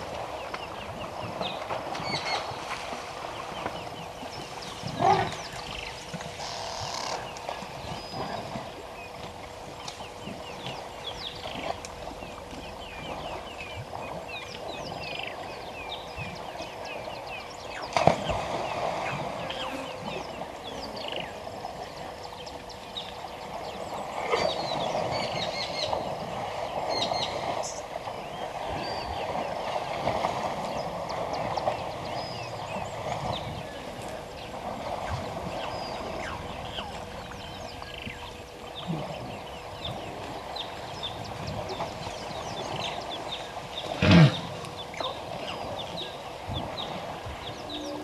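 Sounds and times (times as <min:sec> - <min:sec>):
elephants splashing in water: 0:00.0 - 0:48.0
birds chirping rapidly: 0:00.2 - 0:48.0.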